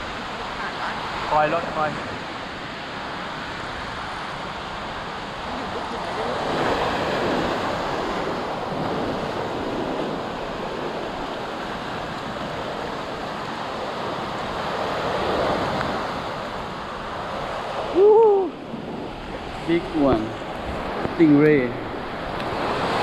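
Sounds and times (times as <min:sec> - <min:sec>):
surf washing up sandy beach: 0:00.0 - 0:23.0.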